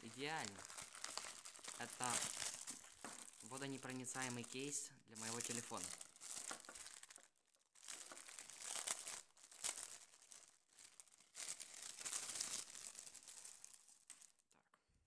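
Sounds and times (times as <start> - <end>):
plastic pouch crinkling: 0.0 - 14.4.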